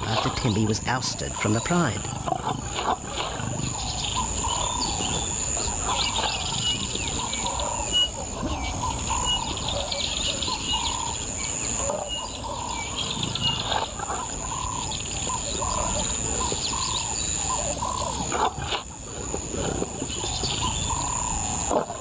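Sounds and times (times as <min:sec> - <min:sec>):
birds chirping: 0:00.0 - 0:22.0
steady high-pitched hiss: 0:00.0 - 0:22.0.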